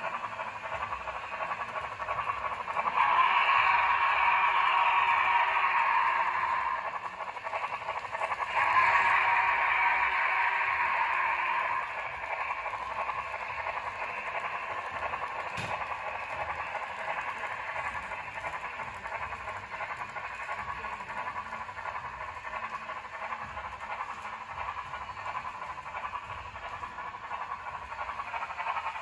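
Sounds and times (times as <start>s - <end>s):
steam hiss from small speaker: 0.0s - 29.0s.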